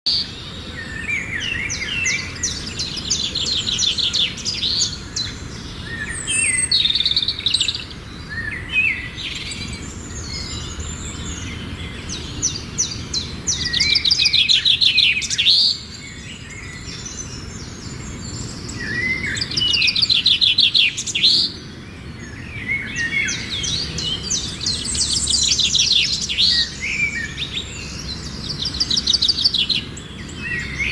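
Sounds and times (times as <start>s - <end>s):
songbirds singing: 0.0s - 30.9s.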